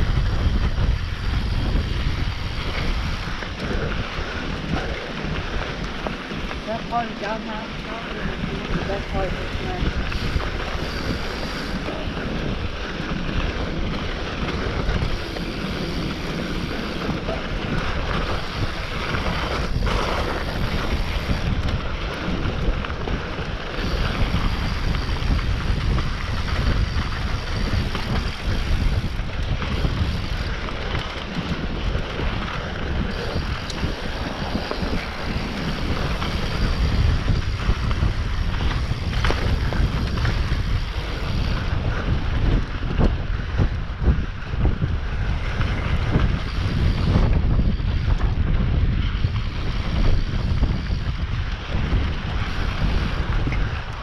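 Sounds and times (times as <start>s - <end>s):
bike chatter over rough ground: 0.0s - 54.0s
bike tyre noise: 0.0s - 54.0s
wind rushing over microphone: 0.0s - 54.0s.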